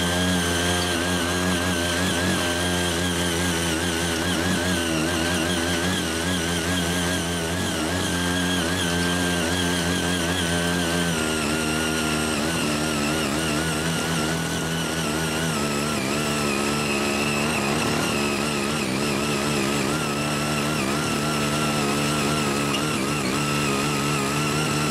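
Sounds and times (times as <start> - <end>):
tiller engine running: 0.0 - 24.9.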